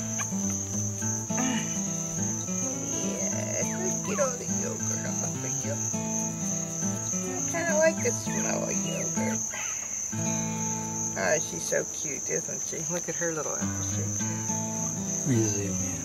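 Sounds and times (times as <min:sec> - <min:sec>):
crickets chirring: 0:00.0 - 0:16.0
guitar music: 0:00.0 - 0:16.0.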